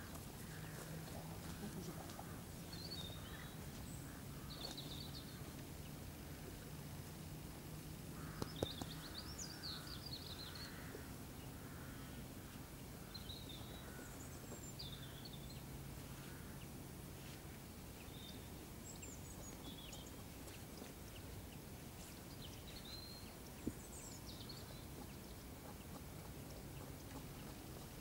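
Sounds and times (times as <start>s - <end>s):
small birds chirping: 0.0s - 6.4s, 8.2s - 16.6s, 17.2s - 28.0s
faint low hum: 0.0s - 28.0s.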